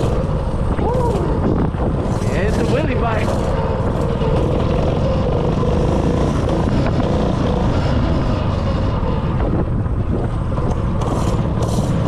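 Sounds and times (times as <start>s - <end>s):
mini bike engine running: 0.0s - 12.0s
wind on microphone: 0.0s - 12.0s.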